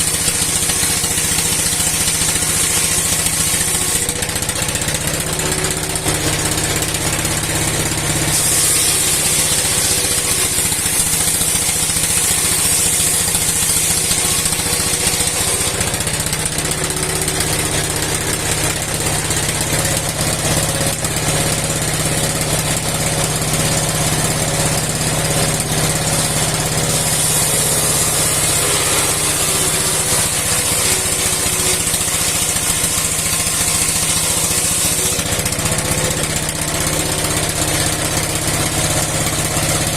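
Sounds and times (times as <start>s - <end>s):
engine running sawmill blade: 0.0s - 39.9s.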